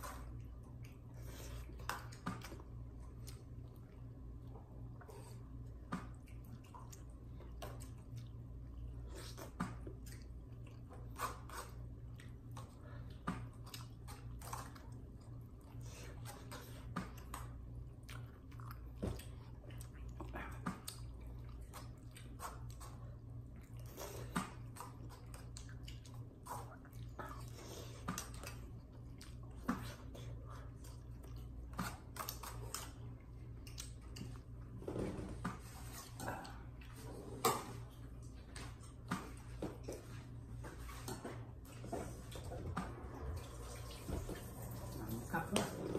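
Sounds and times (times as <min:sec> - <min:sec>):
person chewing food: 0:00.0 - 0:44.7
low hum: 0:00.0 - 0:45.9.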